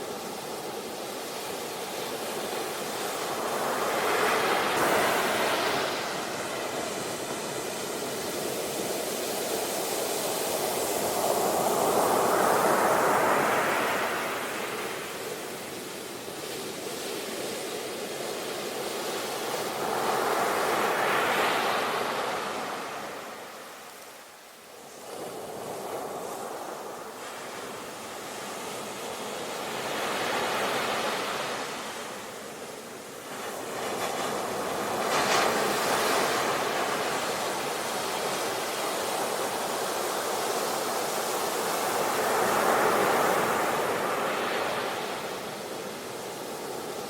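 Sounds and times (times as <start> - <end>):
sea waves breaking on shore: 0.0 - 47.0.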